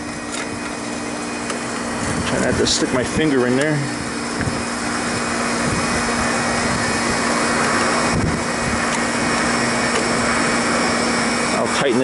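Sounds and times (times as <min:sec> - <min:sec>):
condensing unit humming: 0:00.0 - 0:12.0.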